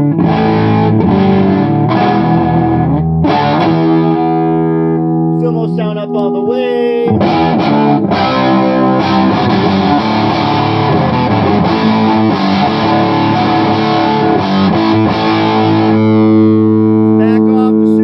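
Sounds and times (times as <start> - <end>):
overdriven electric guitar chords: 0.0 - 18.0.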